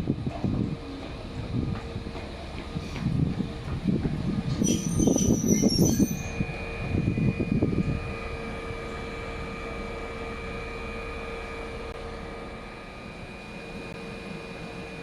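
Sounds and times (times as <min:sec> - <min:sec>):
electric train equipment whine: 0:00.0 - 0:15.0.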